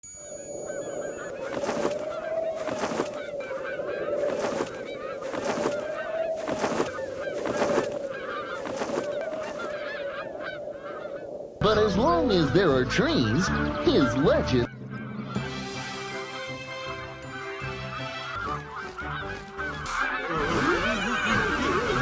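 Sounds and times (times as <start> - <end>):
geese honking: 0.6 - 11.6, 13.2 - 22.0.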